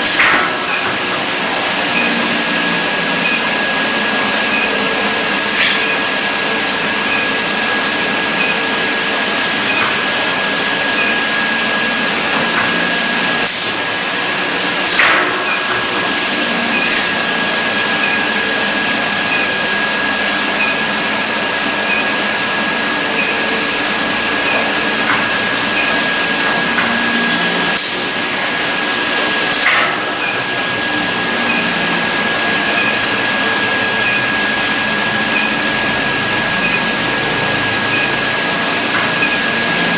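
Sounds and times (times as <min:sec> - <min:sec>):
high machine whine: 0:00.0 - 0:39.9.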